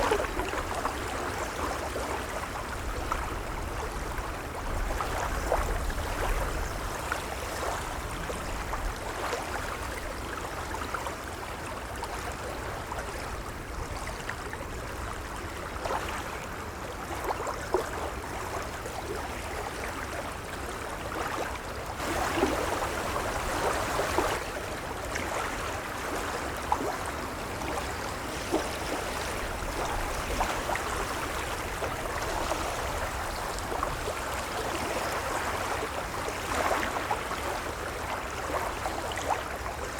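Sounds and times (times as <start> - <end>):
waves lapping at shore: 0.0 - 39.9.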